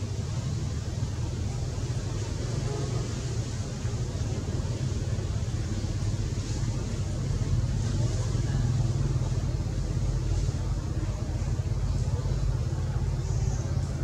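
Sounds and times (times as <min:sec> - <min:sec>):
idling vehicle engine rumble: 0:00.0 - 0:14.0.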